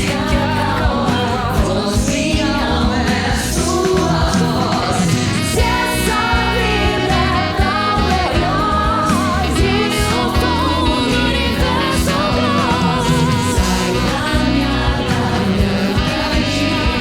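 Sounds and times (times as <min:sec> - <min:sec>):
backing voices: 0:00.0 - 0:17.0
person singing with vibrato: 0:00.0 - 0:17.0.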